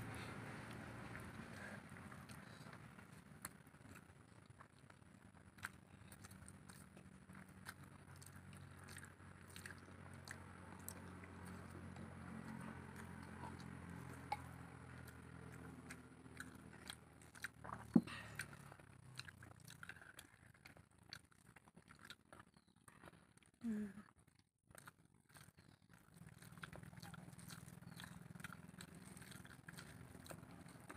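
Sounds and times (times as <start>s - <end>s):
soft chewing: 0.0s - 30.9s.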